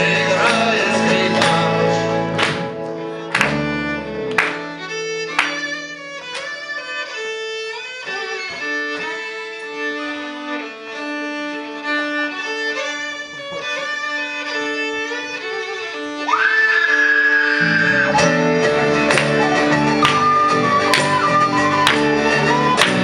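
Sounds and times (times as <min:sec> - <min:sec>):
guitar accompaniment: 0:00.0 - 0:23.0
violin melody: 0:00.0 - 0:23.0.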